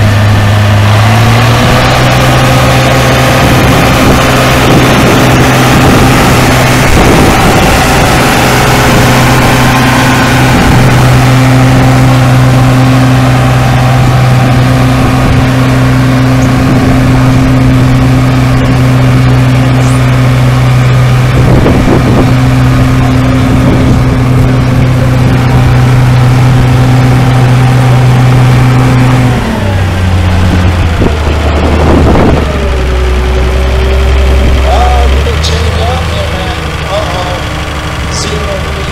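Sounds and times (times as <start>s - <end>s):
tractor engine running hard: 0.0s - 38.9s.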